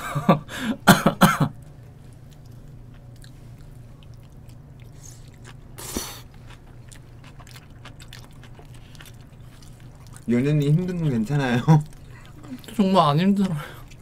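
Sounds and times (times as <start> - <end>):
low steady hum: 0.0 - 14.0
person chewing: 1.6 - 14.0.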